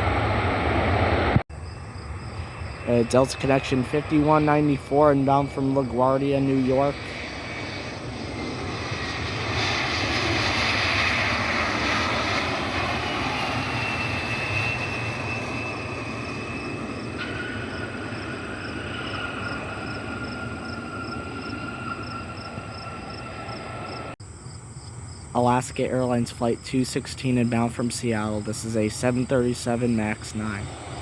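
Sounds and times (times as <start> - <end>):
high engine whine: 0.0 - 24.3, 25.4 - 31.0
jet engine roar: 0.0 - 31.0.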